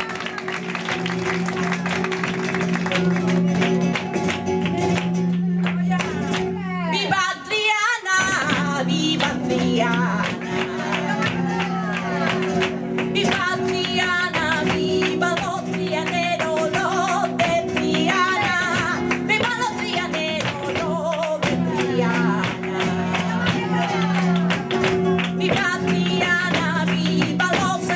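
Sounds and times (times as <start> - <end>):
strummed flamenco guitar: 0.0 - 27.9
woman singing flamenco: 0.0 - 27.9.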